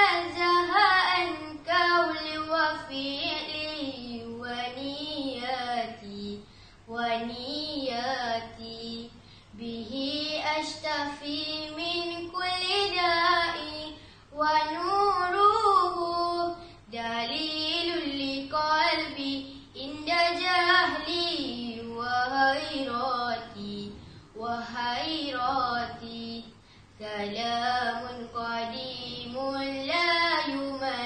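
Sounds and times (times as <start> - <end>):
girl singing unaccompanied: 0.0 - 31.0.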